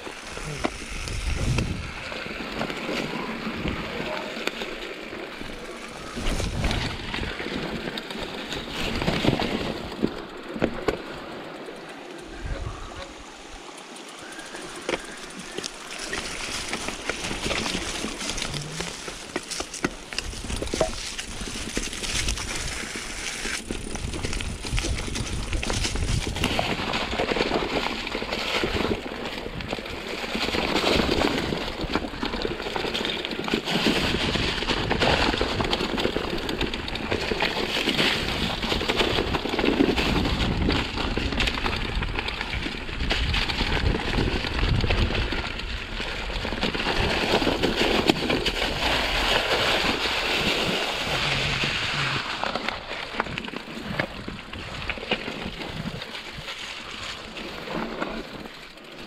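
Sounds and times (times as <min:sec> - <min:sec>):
bike clattering over stones: 0:00.0 - 0:12.2, 0:14.0 - 0:59.0
tyre and wind noise: 0:00.0 - 0:59.0.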